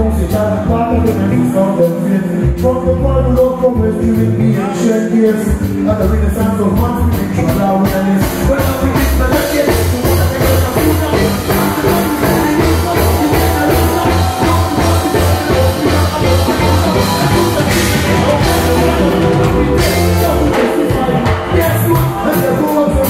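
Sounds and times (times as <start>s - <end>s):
pulsing bass line: 0.0s - 4.7s, 5.4s - 23.0s
loud live band music: 0.0s - 23.0s.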